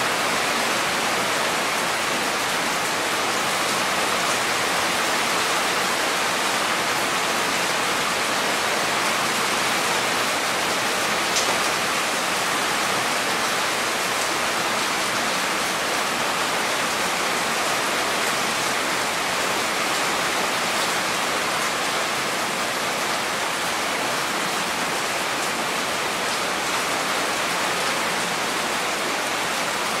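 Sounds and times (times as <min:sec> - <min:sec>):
heavy rain on leaves: 0:00.0 - 0:30.0.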